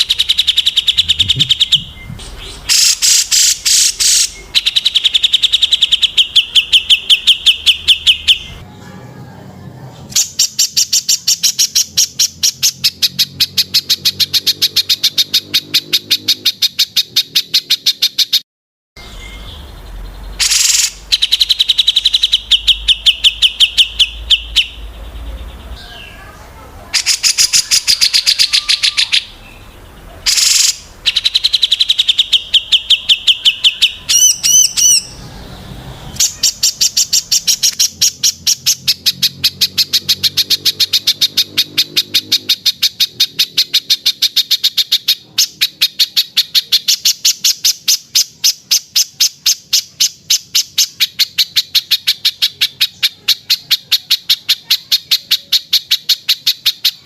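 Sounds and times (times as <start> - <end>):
songbirds chirping and trilling: 0.0 - 18.4, 19.0 - 57.0.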